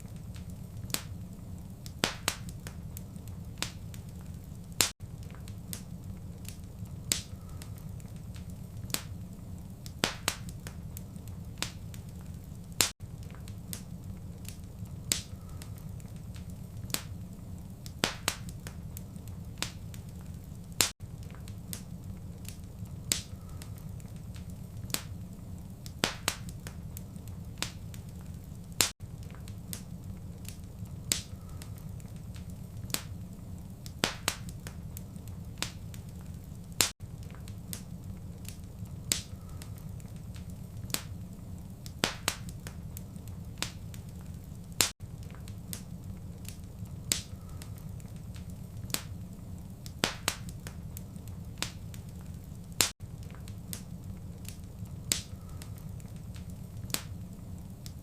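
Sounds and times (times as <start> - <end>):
low fire rumble: 0.0 - 58.0
wood fire crackling: 0.0 - 58.0.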